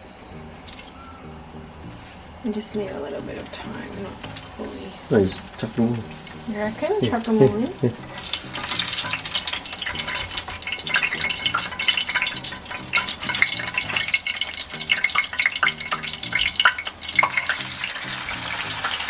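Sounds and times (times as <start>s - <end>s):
oil crackling and popping: 0.6s - 1.3s, 1.9s - 19.0s
stirring in a pan: 2.0s - 19.0s
food sizzling in hot oil: 2.1s - 19.0s.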